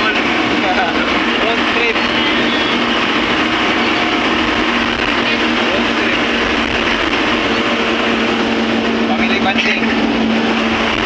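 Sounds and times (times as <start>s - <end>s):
road and engine noise in cabin: 0.0s - 11.0s.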